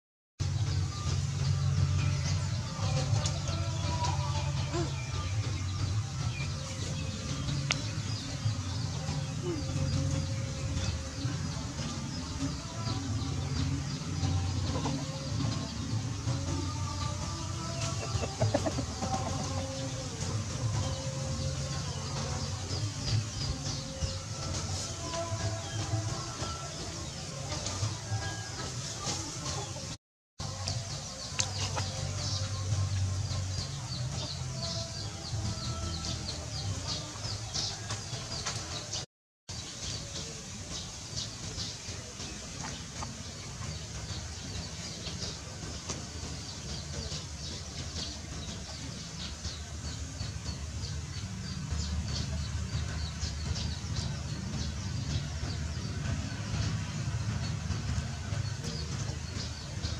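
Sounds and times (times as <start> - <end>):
birds chirping: 0.4 - 59.9.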